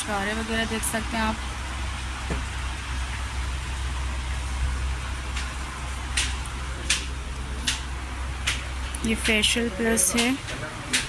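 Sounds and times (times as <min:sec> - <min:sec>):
low background hum and rumble: 0:00.0 - 0:11.0.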